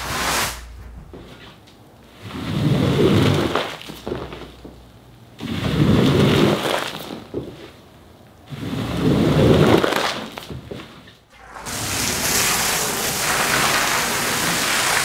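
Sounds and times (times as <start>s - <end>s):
squeegee scraping wet rug: 0.0s - 4.7s, 5.4s - 7.8s, 8.5s - 15.0s.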